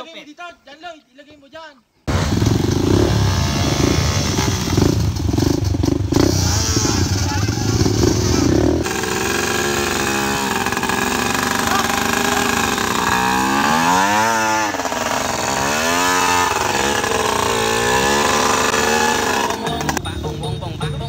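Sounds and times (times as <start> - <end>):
dirt bike engine revving: 2.1 - 20.0.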